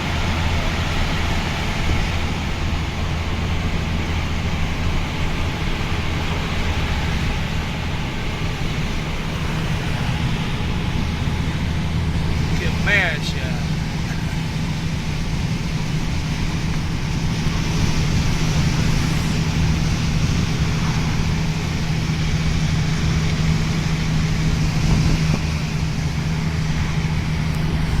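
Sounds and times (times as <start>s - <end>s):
broad rushing noise: 0.0s - 28.0s
engine humming: 0.0s - 28.0s.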